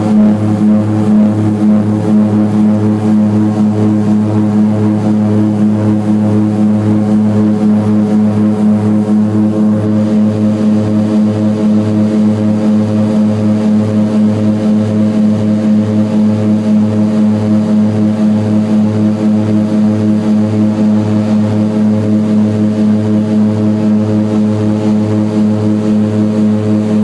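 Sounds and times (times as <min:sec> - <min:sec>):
propeller engine drone: 0:00.0 - 0:27.0.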